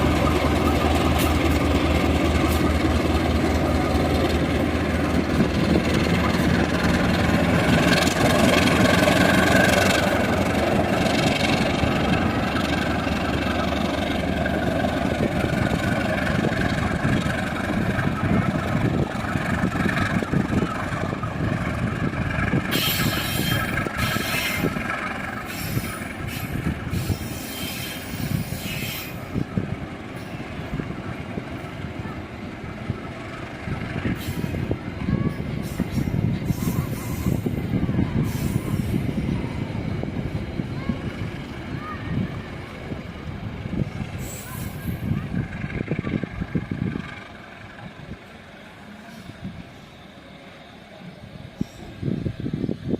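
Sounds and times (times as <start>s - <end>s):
carriages rumbling and clattering: 0.0s - 52.9s
diesel locomotive hum: 0.0s - 52.9s.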